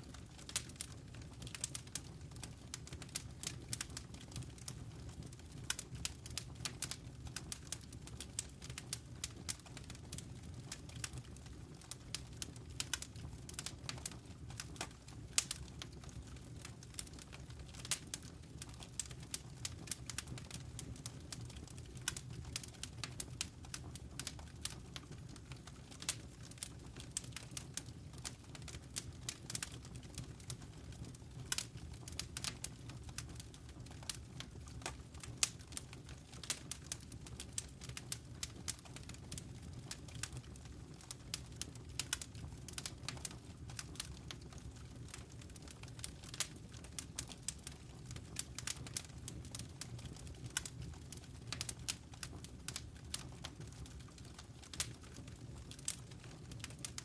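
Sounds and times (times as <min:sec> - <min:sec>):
fire crackling and popping: 0:00.0 - 0:57.0
low fire rumble: 0:00.0 - 0:57.0.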